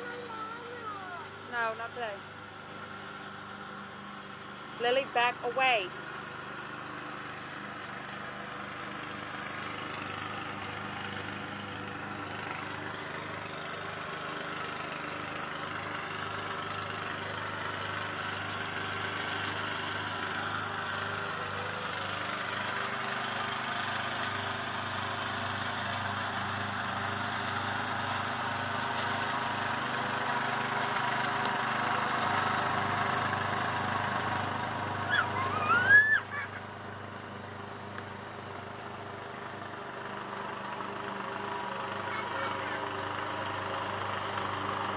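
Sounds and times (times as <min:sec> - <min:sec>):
riding lawn mower engine: 0:00.0 - 0:44.9.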